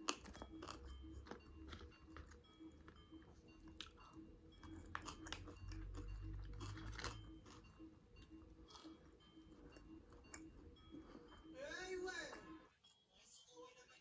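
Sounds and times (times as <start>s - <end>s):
chewing crunchy fried chicken: 0.0s - 12.7s.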